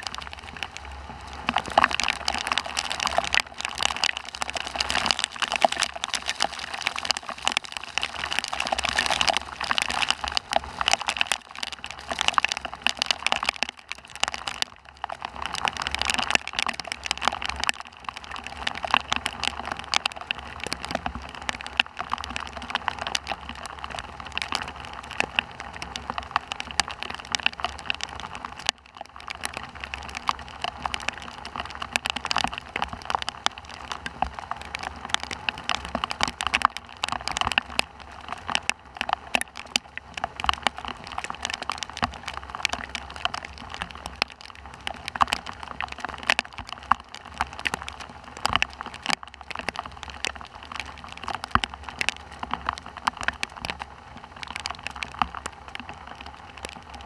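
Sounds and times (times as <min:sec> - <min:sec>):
heavy rain patter: 0:00.0 - 0:57.0.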